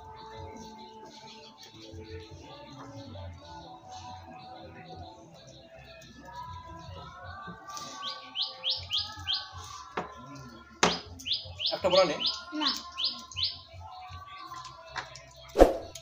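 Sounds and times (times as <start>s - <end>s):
faint music: 0.0s - 16.0s
small bird singing: 0.0s - 16.0s.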